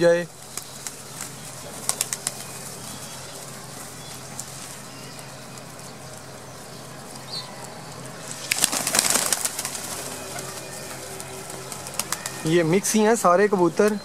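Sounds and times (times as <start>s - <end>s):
wings flapping: 0.0s - 13.2s
pigeons feeding: 0.0s - 14.0s.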